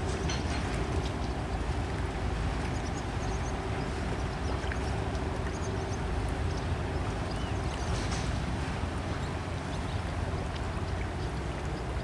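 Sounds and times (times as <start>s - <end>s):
ship rumble and hum: 0.0s - 12.0s.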